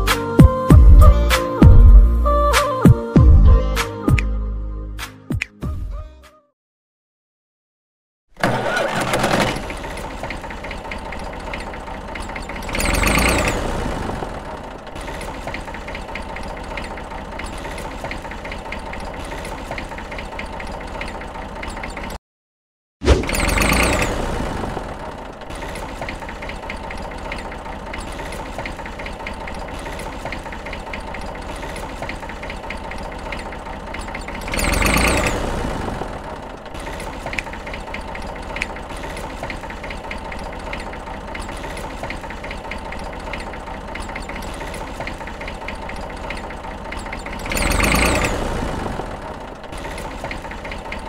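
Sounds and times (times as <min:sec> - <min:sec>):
fast even rattle: 0:08.4 - 0:22.2, 0:23.1 - 0:51.0
miniature tractor engine drone: 0:08.4 - 0:22.2, 0:23.1 - 0:51.0.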